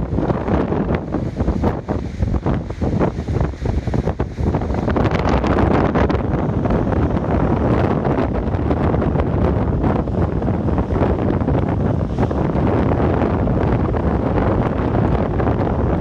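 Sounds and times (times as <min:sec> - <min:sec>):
surf washing on shore: 0:00.0 - 0:16.0
wind buffeting microphone: 0:00.0 - 0:16.0.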